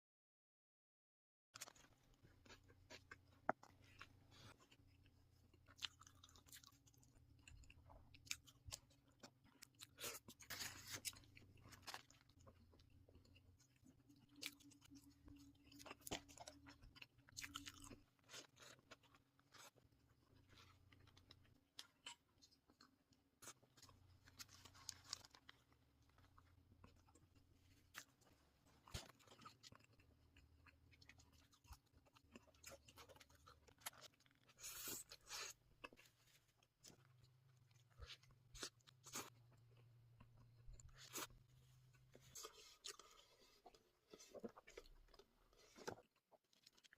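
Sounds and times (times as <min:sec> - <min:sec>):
chewing and crunching food: 0:01.6 - 0:46.9.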